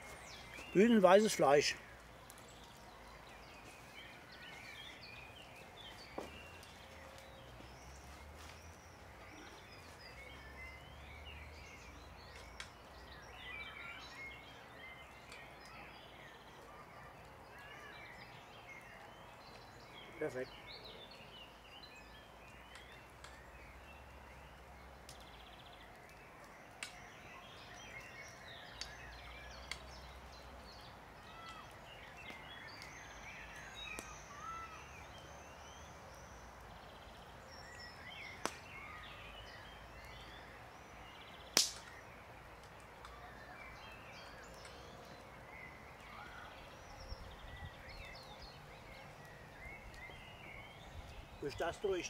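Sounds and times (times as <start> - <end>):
birds chirping: 0.0 - 52.0
faint outdoor hiss: 0.0 - 52.0.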